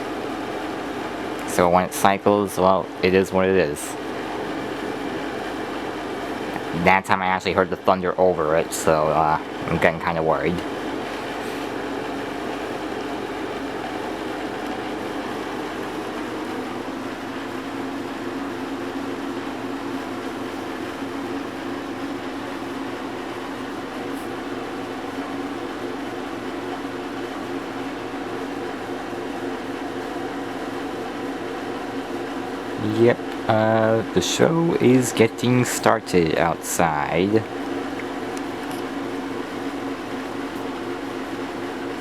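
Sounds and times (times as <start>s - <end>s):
air conditioner hum: 0.0s - 42.0s
water in air conditioner: 0.0s - 42.0s.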